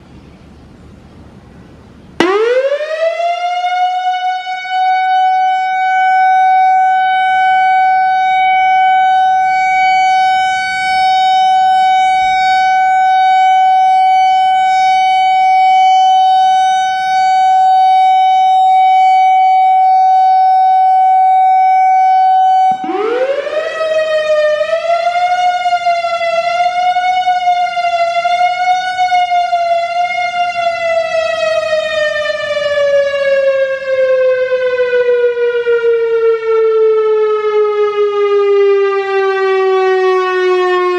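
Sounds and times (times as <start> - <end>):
electronic siren: 2.2 - 40.9.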